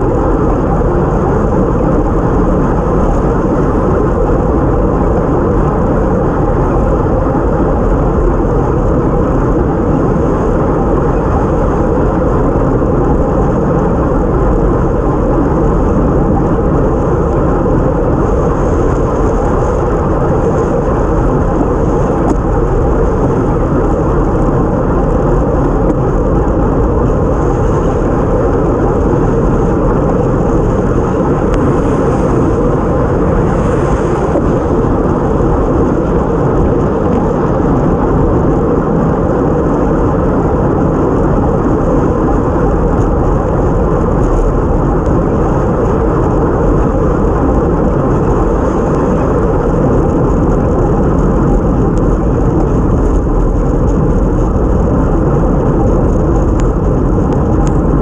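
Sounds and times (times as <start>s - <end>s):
tyre noise on wet road: 0.0s - 58.0s
wind rushing over microphone: 0.0s - 58.0s.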